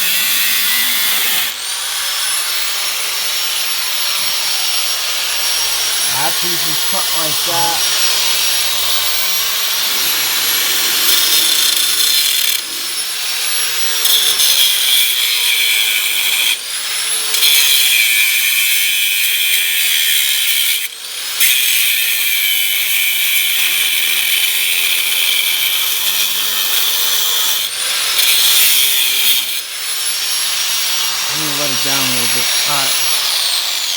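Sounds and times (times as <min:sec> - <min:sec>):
power tool cutting steel: 0:00.0 - 0:33.9.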